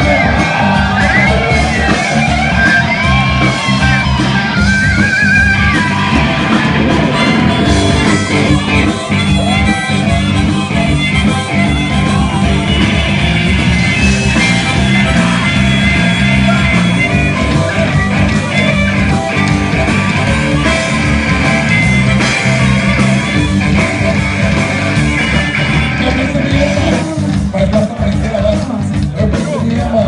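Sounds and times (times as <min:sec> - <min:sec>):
rock band playing blues: 0:00.0 - 0:30.0.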